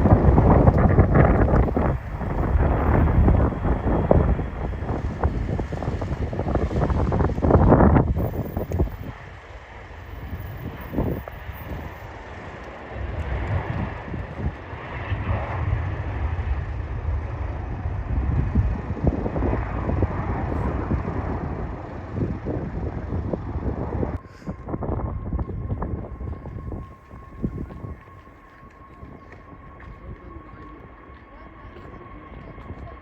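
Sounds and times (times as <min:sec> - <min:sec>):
jet airliner engine rushing: 0:00.0 - 0:30.9
wind buffeting microphone: 0:00.0 - 0:33.0.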